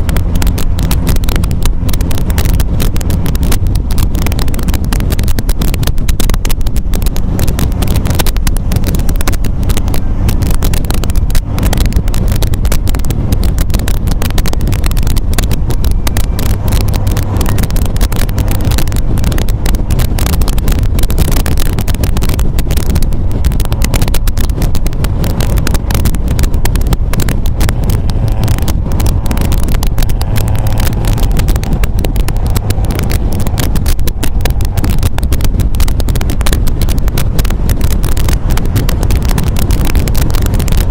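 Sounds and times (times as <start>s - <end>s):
car engine running: 0.0s - 40.9s
wind noise on microphone: 0.0s - 40.9s.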